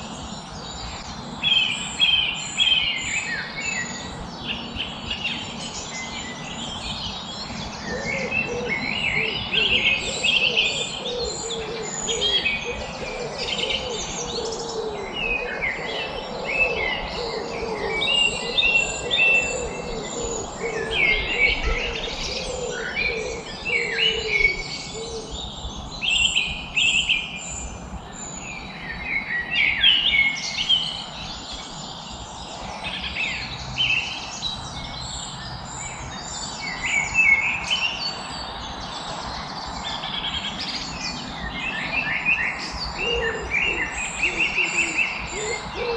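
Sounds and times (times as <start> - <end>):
birds chirping and trilling: 0.0 - 45.9.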